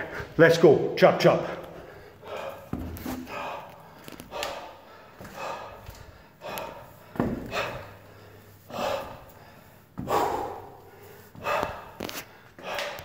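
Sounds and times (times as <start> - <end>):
man breathing heavily: 0.0 - 0.4, 1.2 - 13.0.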